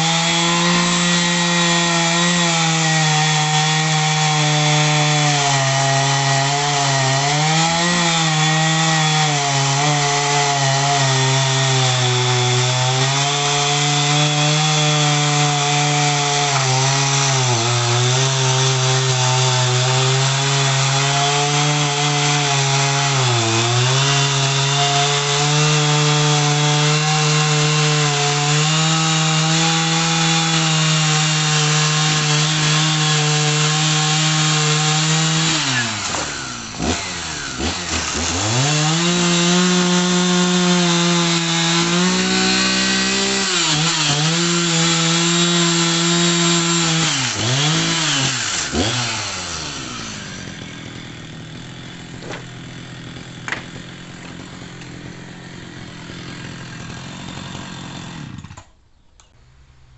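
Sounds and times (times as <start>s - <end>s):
chainsaw cutting logs: 0.0s - 58.8s.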